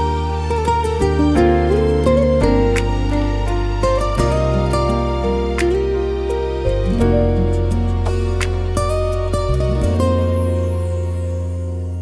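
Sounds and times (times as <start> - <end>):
plucked guitar-like notes: 0.0 - 12.0
slow soft instrumental music: 0.0 - 12.0.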